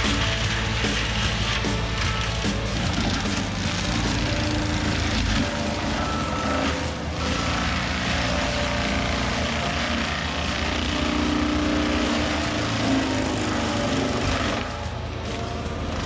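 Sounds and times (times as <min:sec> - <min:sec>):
diesel engine drone: 0:00.0 - 0:16.0
mulcher head spinning: 0:00.0 - 0:16.0.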